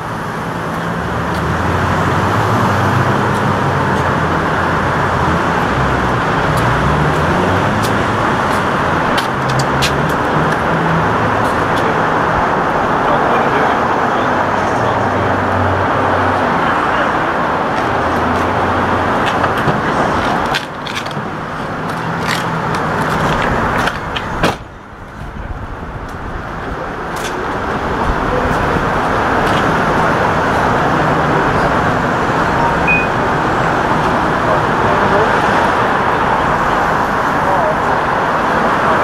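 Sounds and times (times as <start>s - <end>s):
car engines running: 0.0s - 39.0s
passing street traffic: 0.0s - 39.0s.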